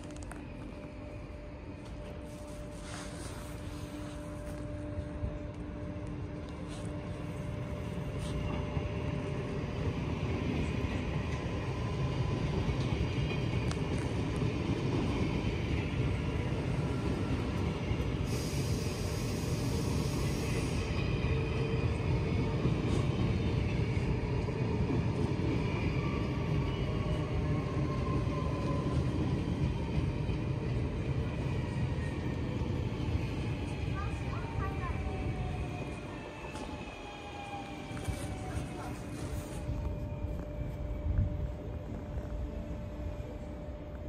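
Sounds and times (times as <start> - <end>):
faint train squeals: 0.0 - 44.0
train wheels and motors rumbling: 0.0 - 44.0.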